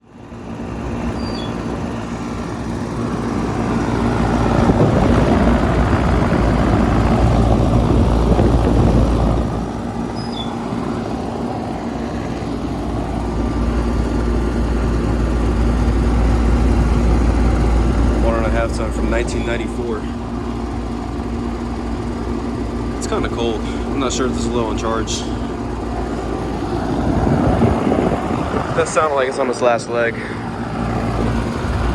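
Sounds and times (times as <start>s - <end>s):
condenser fan noise: 0.0s - 31.9s
air conditioner hum: 0.2s - 31.9s.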